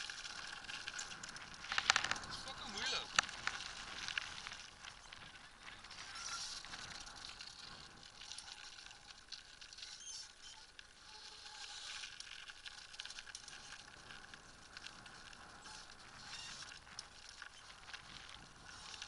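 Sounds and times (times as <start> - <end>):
wheels rolling on gritty pavement: 0.0 - 19.0.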